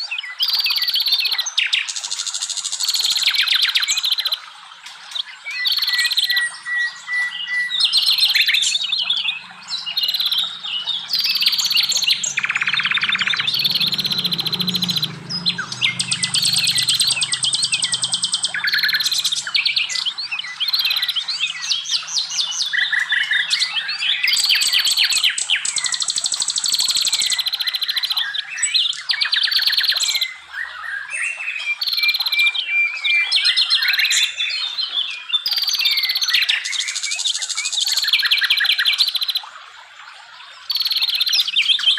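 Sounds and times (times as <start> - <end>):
songbirds chorus: 0.0 - 41.9.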